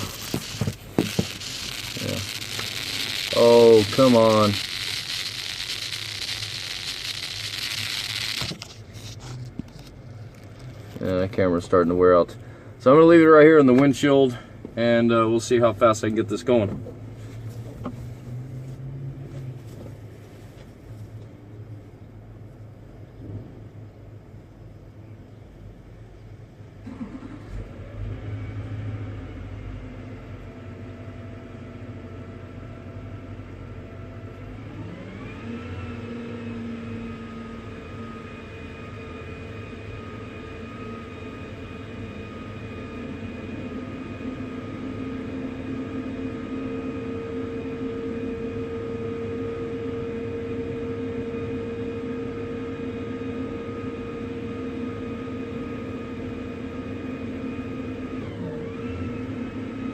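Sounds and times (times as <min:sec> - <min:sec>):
truck engine running with whine: 0:00.0 - 0:12.8, 0:16.5 - 0:24.5, 0:25.6 - 0:59.9.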